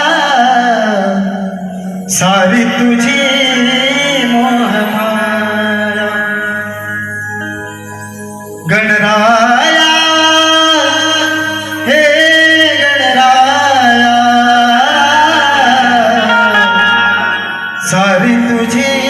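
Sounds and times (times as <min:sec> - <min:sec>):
man singing devotional song: 0:00.0 - 0:07.0, 0:08.6 - 0:19.0
drone and instrumental accompaniment: 0:00.0 - 0:19.0.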